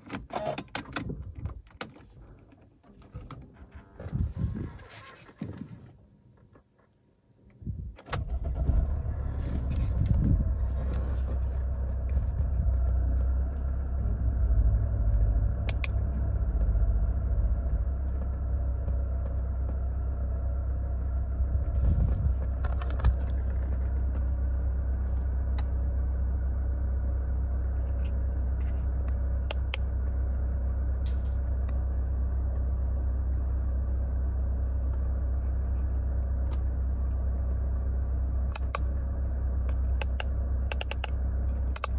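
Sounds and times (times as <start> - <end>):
car engine idling: 8.1 - 41.9.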